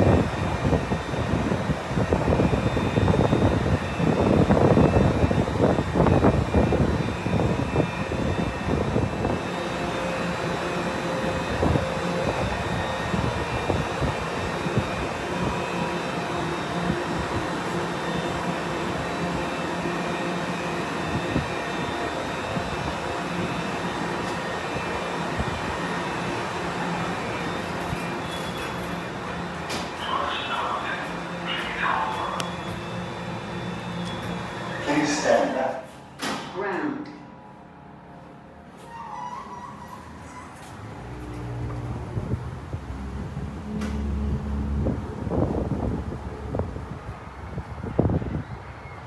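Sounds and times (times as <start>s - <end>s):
train cabin hum with held tones: 0.0s - 49.0s.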